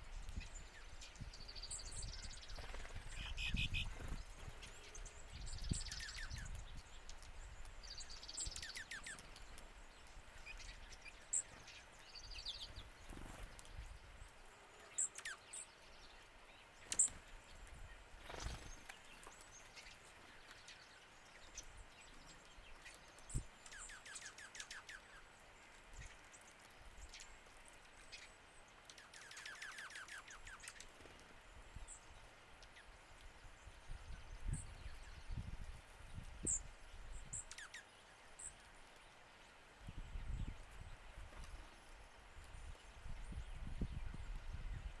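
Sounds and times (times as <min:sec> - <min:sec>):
songbird trills: 0:00.0 - 0:45.0.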